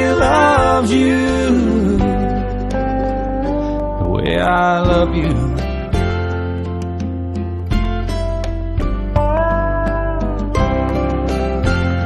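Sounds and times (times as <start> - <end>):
slow ballad music: 0.0 - 12.0.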